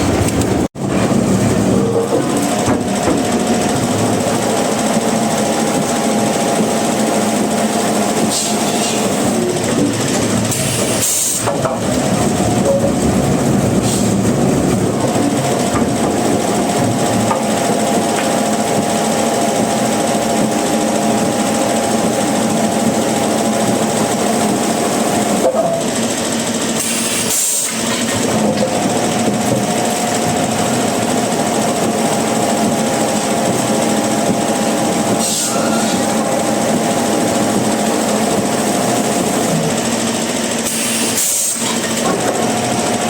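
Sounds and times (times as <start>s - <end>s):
sawmill saw cutting timber: 1.7s - 43.0s.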